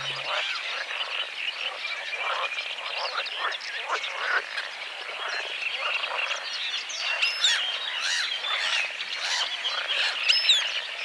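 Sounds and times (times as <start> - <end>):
frogs croaking: 0.0 - 11.0.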